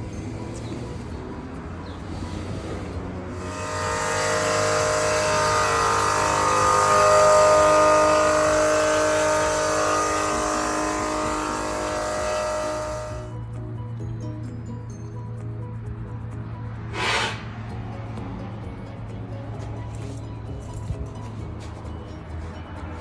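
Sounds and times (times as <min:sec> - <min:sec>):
vehicle passing by: 0:00.0 - 0:13.5, 0:15.7 - 0:23.0.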